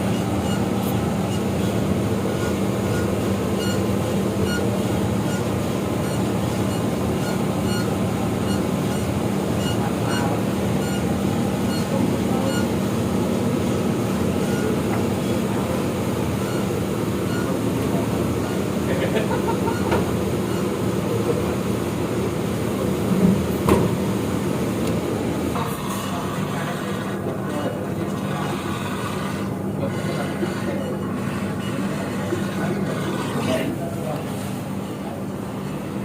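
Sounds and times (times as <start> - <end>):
washing machine humming: 0.0 - 36.0.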